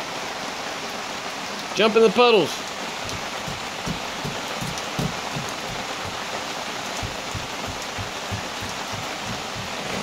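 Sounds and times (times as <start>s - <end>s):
rain falling: 0.0s - 10.0s
raindrops tapping close by: 0.0s - 10.0s.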